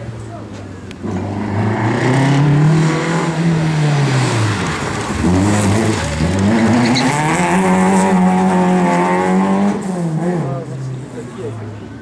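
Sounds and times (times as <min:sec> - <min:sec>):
car engine revving hard: 0:01.0 - 0:10.7.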